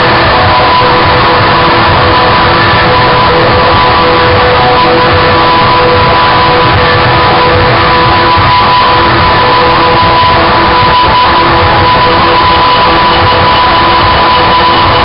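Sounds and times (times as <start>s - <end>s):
distorted noise music: 0.0s - 15.0s
high drone tones: 0.0s - 15.0s.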